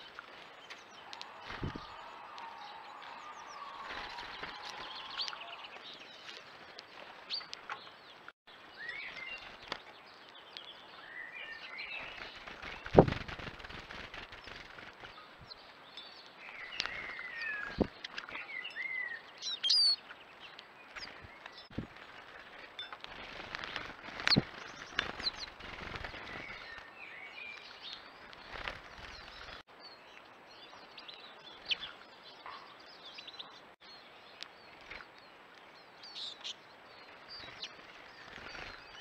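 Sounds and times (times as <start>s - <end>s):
outdoor background noise: 0.0s - 39.0s
small birds chirping: 0.0s - 39.0s.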